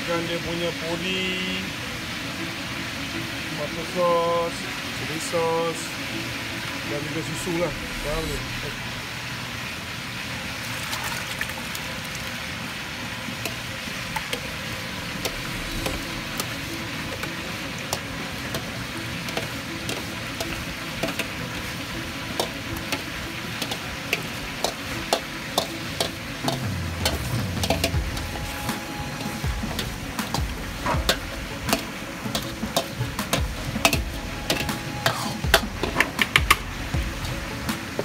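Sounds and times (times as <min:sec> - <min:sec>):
gravy bubbling and hissing: 0:06.9 - 0:38.0.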